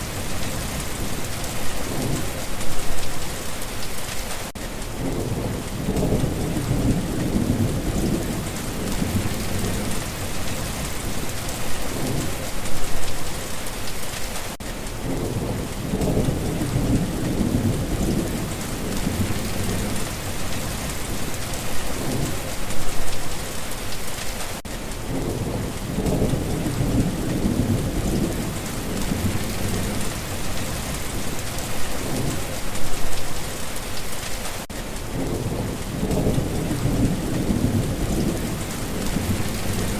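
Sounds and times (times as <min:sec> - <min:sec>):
low thunder rumbles: 0:00.0 - 0:03.1, 0:04.9 - 0:13.1, 0:15.0 - 0:23.1, 0:25.0 - 0:33.1, 0:35.0 - 0:39.9
heavy rain pattering: 0:00.0 - 0:39.9.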